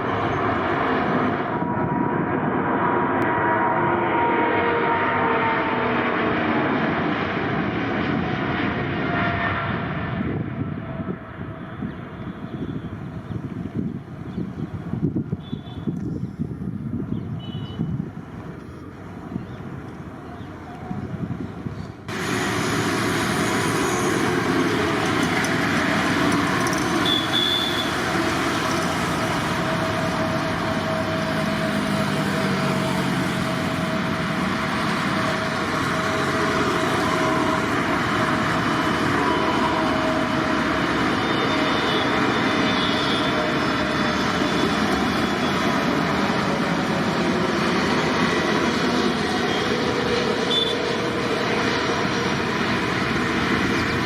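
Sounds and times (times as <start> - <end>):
jet engines at take-off power: 0.0 - 54.0.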